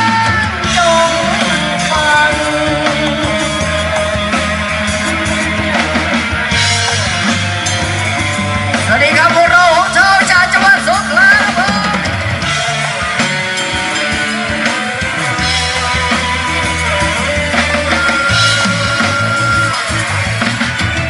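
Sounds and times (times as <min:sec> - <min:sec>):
rock band playing: 0:00.0 - 0:21.0.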